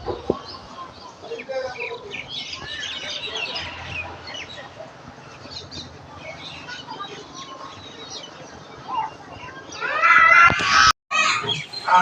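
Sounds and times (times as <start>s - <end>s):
small birds chirping: 0.0s - 9.9s.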